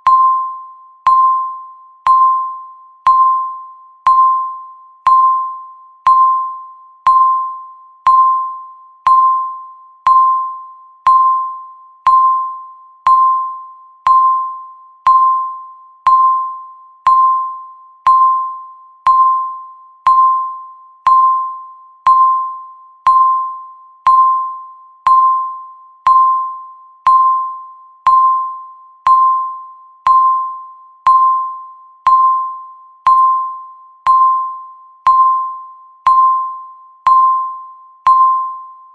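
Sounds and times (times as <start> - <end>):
bell-like timer beeps: 0.0 - 38.9.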